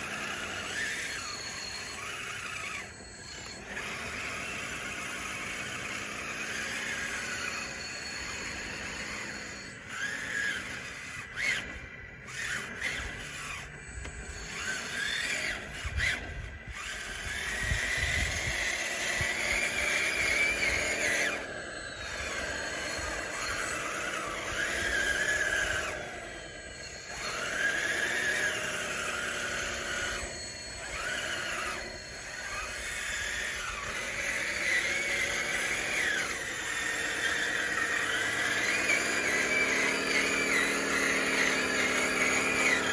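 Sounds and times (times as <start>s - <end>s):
electric drive whining: 0.0s - 42.9s.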